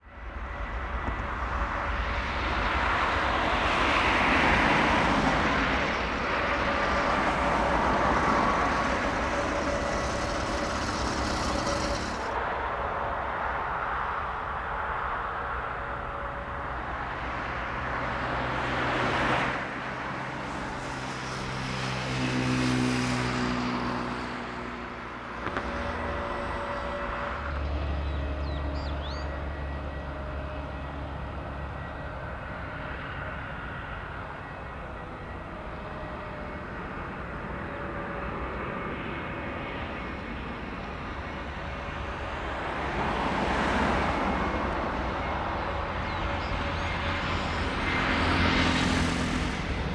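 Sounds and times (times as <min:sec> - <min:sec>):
jet airliner engines: 0:00.0 - 0:49.9.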